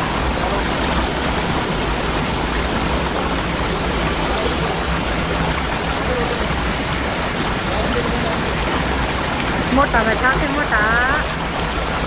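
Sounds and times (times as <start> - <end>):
shallow stream flowing: 0.0 - 12.0
waterfall rushing: 0.0 - 12.0.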